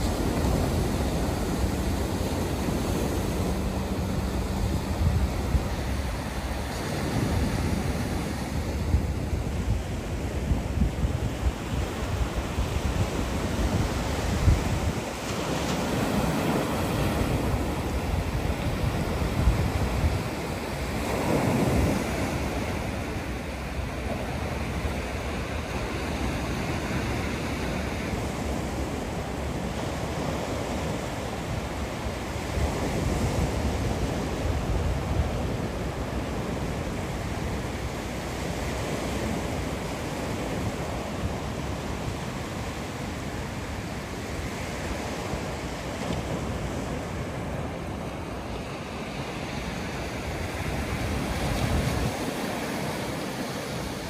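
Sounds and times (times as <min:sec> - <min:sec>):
sea surf washing onto beach: 0:00.0 - 0:54.0
wind rumbling on microphone: 0:00.0 - 0:54.0.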